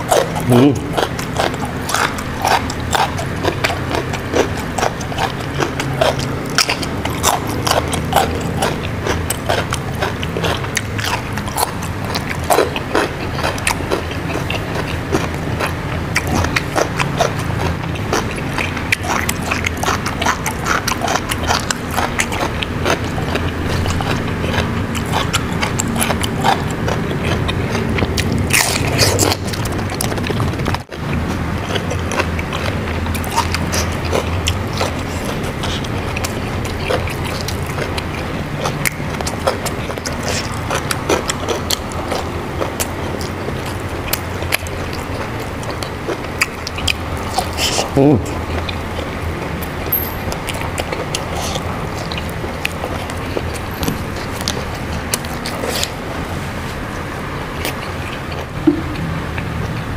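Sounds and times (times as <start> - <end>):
person chewing crisp crunches: 0.0 - 59.9.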